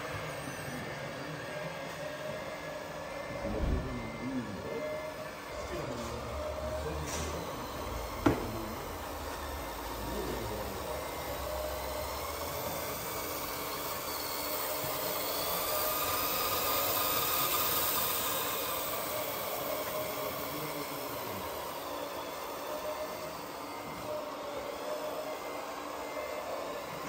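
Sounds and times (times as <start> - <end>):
faint wavering motor whine: 0.0 - 27.0.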